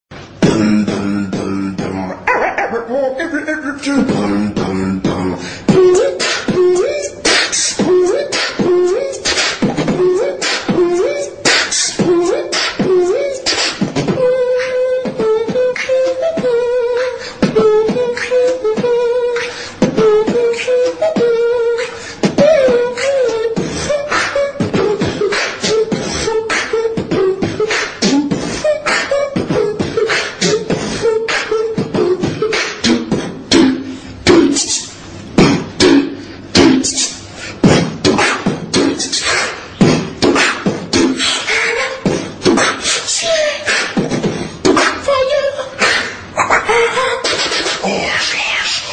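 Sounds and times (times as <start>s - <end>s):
beatboxing with hummed bass: 0.1s - 48.9s.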